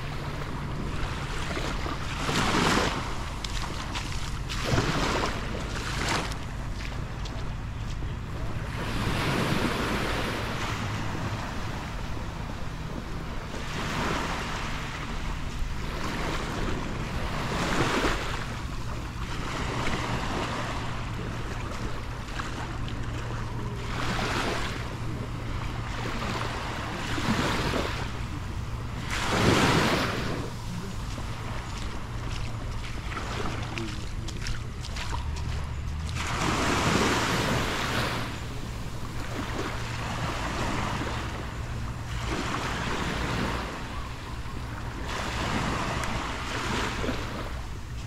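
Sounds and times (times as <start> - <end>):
small waves breaking on sand: 0.0 - 48.0.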